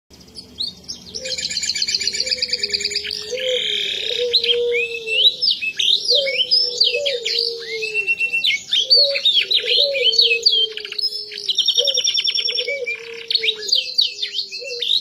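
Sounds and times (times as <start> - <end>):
canary singing: 0.1 - 15.0.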